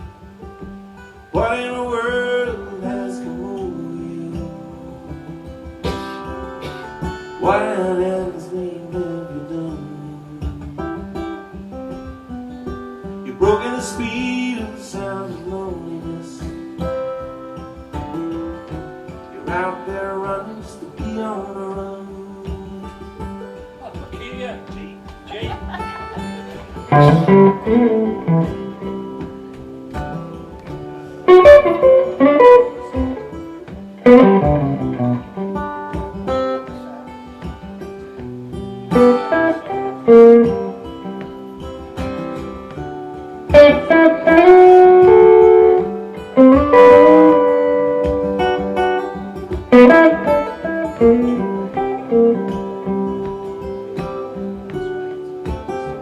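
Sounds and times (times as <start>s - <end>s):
electric guitar notes and chords: 0.0s - 56.0s.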